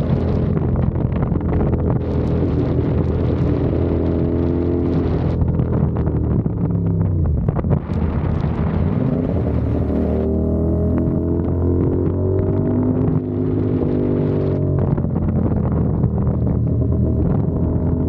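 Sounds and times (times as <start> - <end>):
motorcycle engine and exhaust: 0.0 - 18.0
wind buffeting microphone: 0.0 - 18.0.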